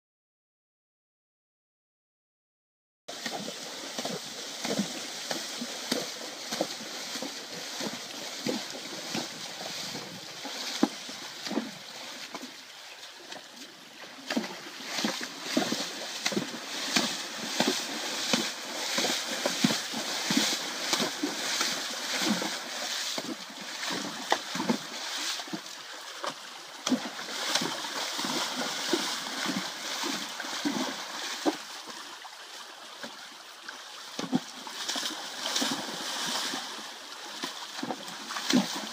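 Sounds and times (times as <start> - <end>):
horses splashing in water: 3.1 - 38.9
stream water rushing: 3.1 - 38.9.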